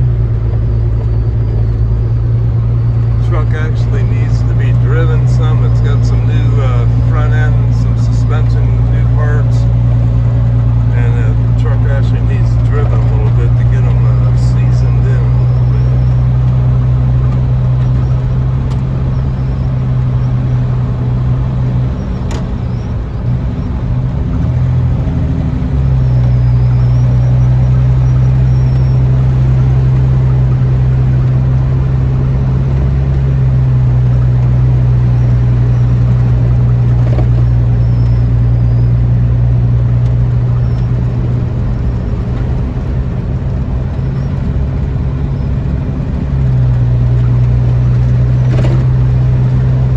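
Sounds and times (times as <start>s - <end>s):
pickup engine running: 0.0s - 49.9s.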